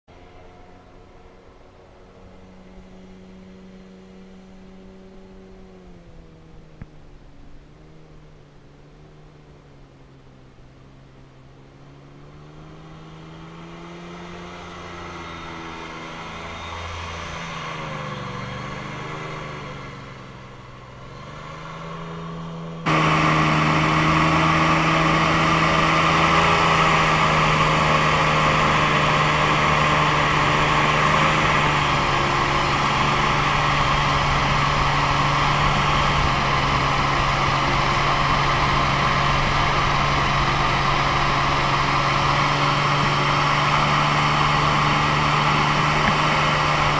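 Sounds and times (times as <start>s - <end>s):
airboat engine and propeller drone: 0.1s - 46.9s.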